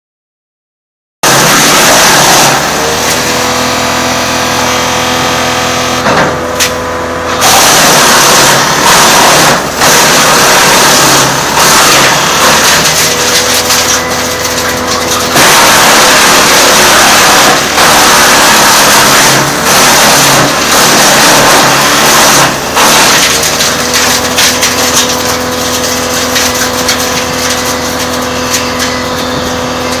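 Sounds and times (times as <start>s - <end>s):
loud ragged grinding: 1.2s - 30.0s
wood chipper engine running: 1.2s - 30.0s.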